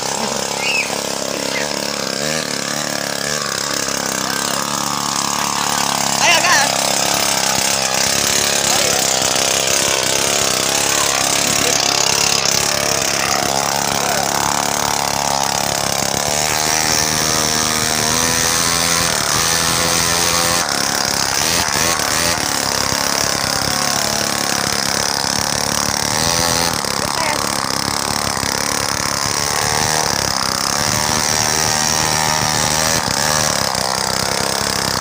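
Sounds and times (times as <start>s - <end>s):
small engine running: 0.0s - 35.0s.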